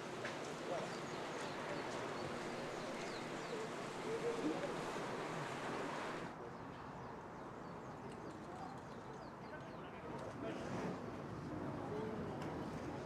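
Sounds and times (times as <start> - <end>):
faint distant voices: 0.0 - 13.0
outdoor background noise: 0.0 - 13.0.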